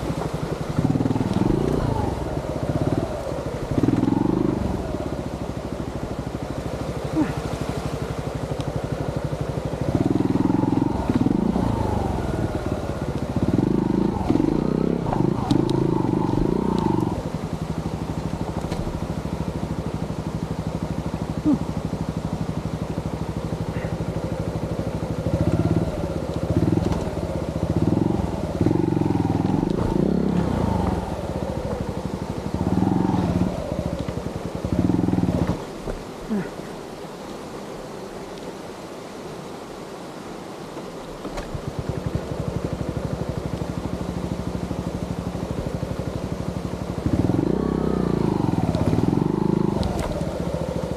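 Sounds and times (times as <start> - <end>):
motorcycle engine revving: 0.0 - 36.5, 41.3 - 50.9.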